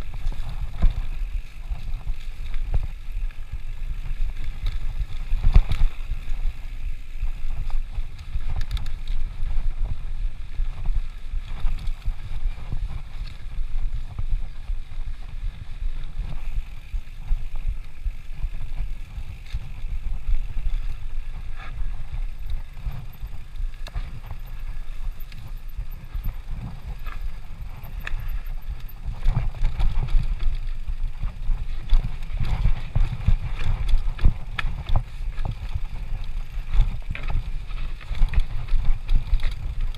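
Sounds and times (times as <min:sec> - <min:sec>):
bike rattling over bumps: 0:00.0 - 0:39.9
wind and tyre noise: 0:00.0 - 0:39.9.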